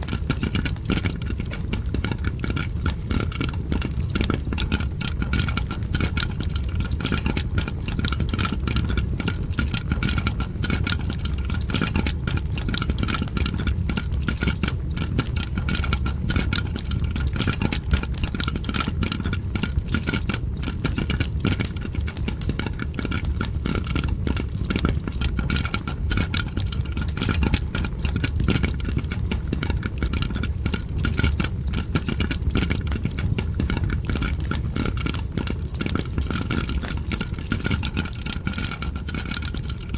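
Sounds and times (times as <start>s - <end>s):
fire crackling: 0.0s - 39.9s
popcorn popping: 0.0s - 39.9s.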